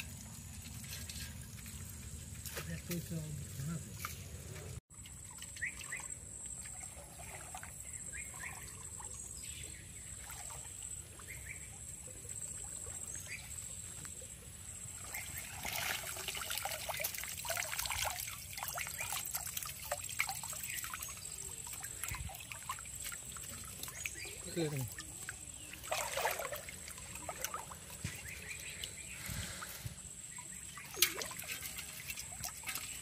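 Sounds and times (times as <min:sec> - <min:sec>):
water splashing and trickling: 0:00.0 - 0:33.0.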